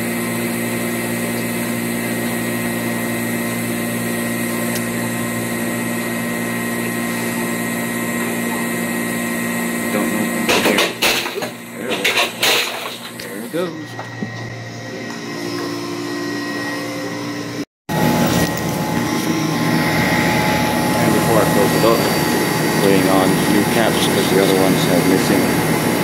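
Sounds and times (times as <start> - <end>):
high whine: 0.0 - 26.0
ice machine humming: 0.0 - 26.0.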